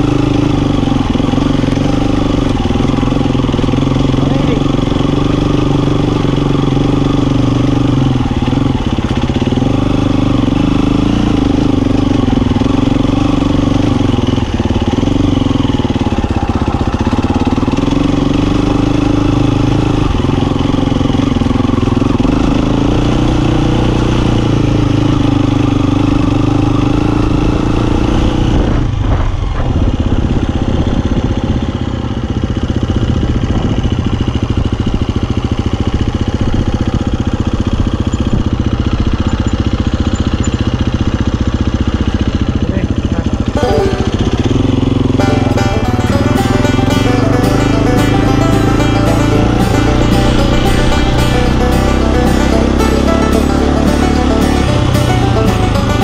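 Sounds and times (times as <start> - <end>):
dirt bike engine revving: 0.0 - 29.4, 30.1 - 56.0.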